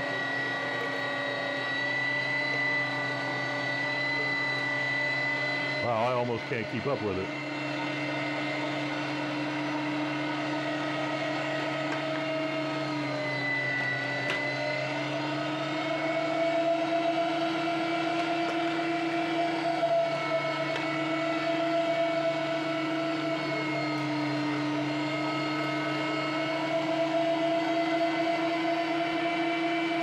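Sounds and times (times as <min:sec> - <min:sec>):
electric meat grinder running: 0:00.0 - 0:30.0.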